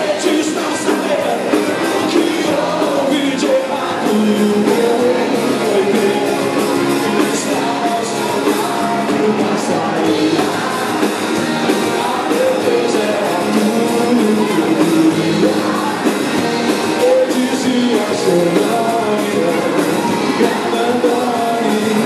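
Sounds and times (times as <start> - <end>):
person singing: 0.0 - 22.0
rock band playing: 0.0 - 22.0.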